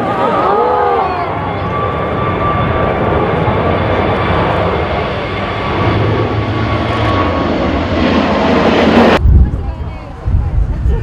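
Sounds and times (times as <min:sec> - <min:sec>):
jet engines running: 0:00.0 - 0:11.0
wind buffeting microphone: 0:01.5 - 0:11.0.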